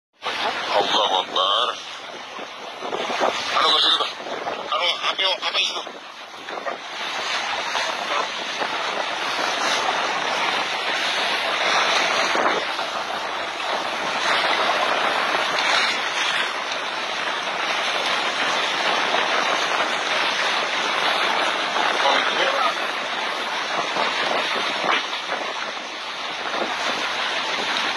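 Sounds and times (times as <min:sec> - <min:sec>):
water rushing against boat hull: 0:00.2 - 0:27.9
wind on microphone: 0:00.2 - 0:27.9.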